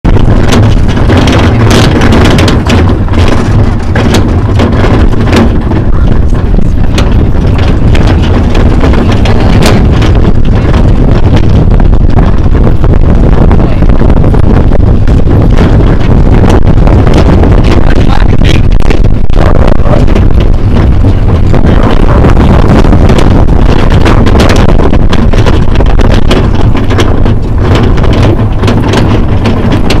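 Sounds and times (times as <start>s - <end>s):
clicks and rattles: 0.0s - 30.0s
wind buffeting the microphone: 0.0s - 30.0s
cart rolling on gravel: 0.1s - 30.0s.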